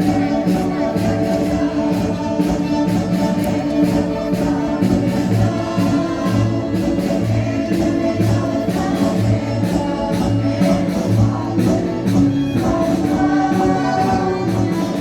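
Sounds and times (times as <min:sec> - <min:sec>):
band playing march beat: 0:00.0 - 0:15.0
group singing: 0:00.0 - 0:15.0.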